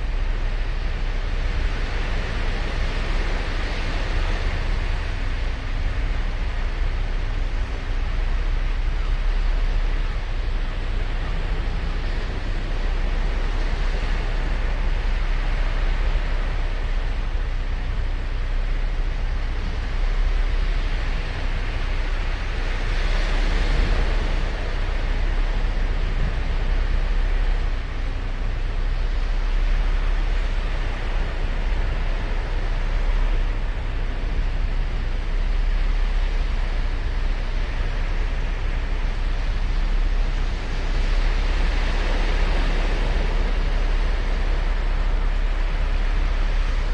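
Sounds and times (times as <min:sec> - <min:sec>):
ocean surf breaking on beach: 0:00.0 - 0:46.9.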